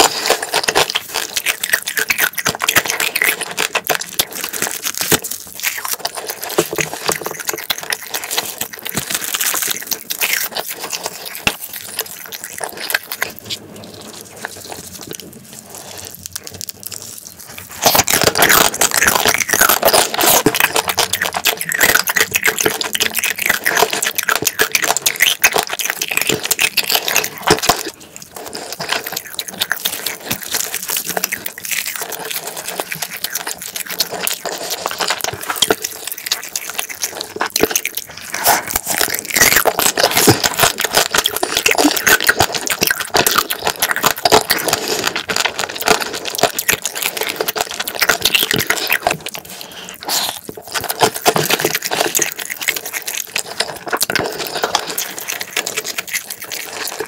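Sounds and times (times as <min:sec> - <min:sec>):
wet chewing and smacking: 0:00.0 - 0:57.0.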